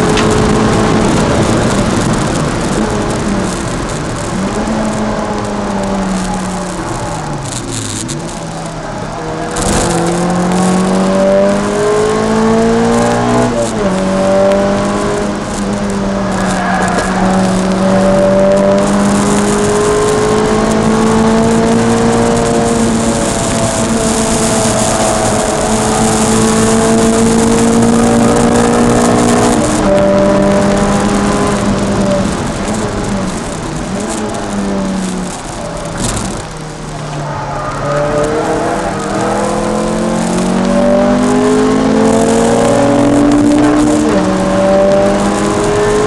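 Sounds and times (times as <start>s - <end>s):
car engine revving: 0.0s - 46.0s
gear upshift: 0.0s - 46.0s
road and wind noise: 0.0s - 46.0s.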